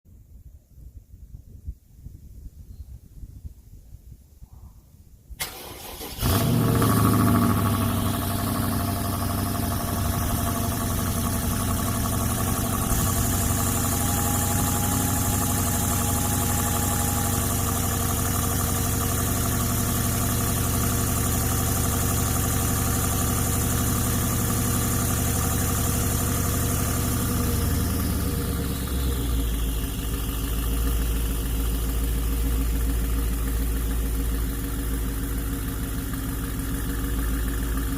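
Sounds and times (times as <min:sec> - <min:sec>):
car engine starting and idling: 0:05.4 - 0:37.9.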